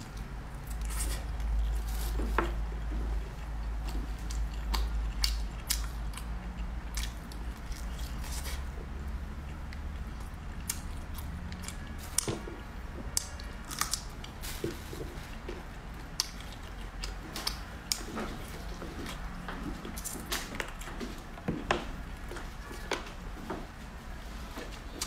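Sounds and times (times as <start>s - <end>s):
chewing crispy food: 0.0s - 21.5s
steady low hum: 0.0s - 25.0s.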